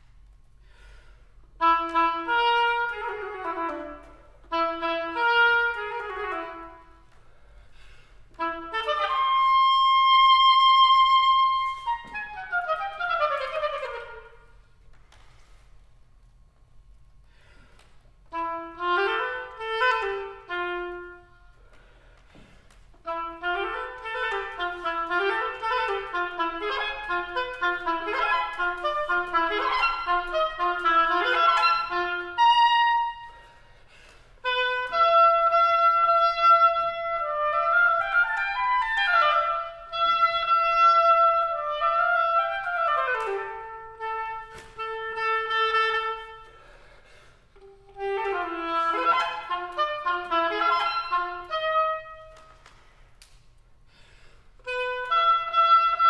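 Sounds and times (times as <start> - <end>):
solo oboe playing: 0.8 - 14.8, 17.4 - 53.4, 54.5 - 56.0.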